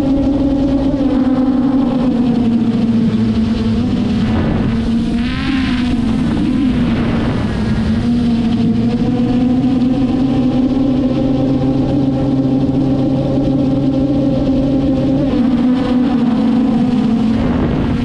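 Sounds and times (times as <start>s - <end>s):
drone motor and propeller hum: 0.0s - 18.0s.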